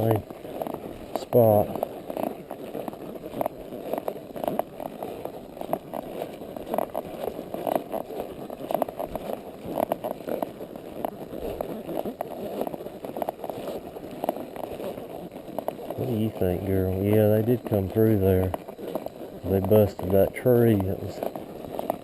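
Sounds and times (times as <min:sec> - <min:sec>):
horse hoof footfalls: 0:00.0 - 0:22.0
steady rustling: 0:00.0 - 0:22.0.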